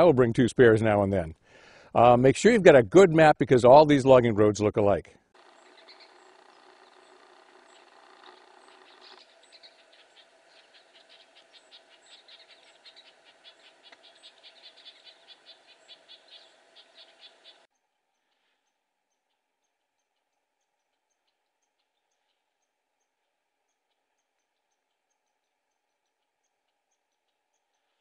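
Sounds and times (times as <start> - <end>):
small birds twittering: 5.4 - 28.0.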